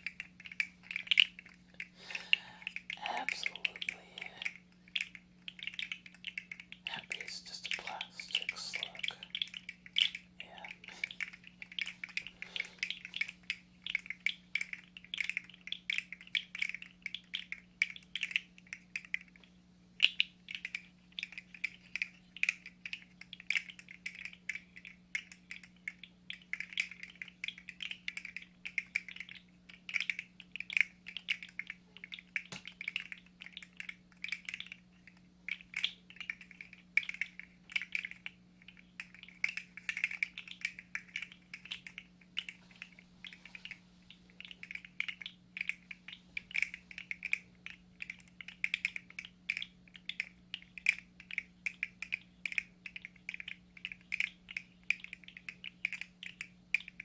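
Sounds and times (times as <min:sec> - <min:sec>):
small plastic clicks and clacks: 0:00.0 - 0:57.0.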